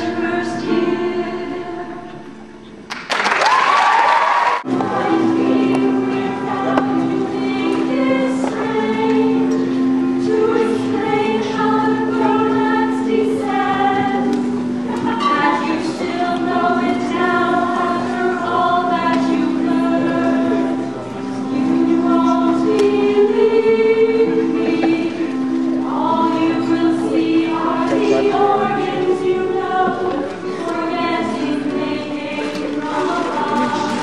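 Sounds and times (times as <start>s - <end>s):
women singing in harmony: 0.0s - 2.4s, 4.7s - 34.0s.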